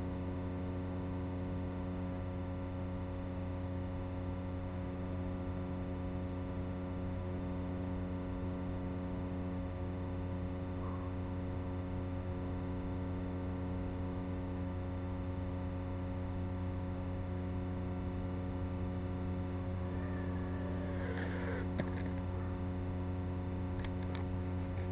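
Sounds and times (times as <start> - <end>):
electrical hum with buzz: 0.0 - 24.9.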